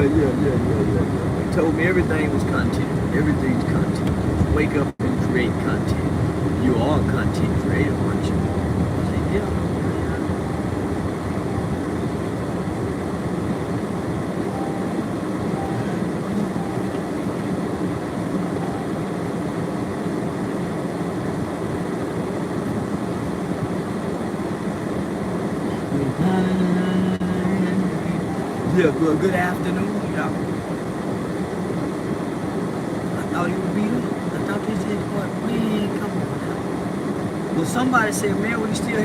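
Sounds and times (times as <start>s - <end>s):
road noise and engine rumble: 0.0s - 39.0s.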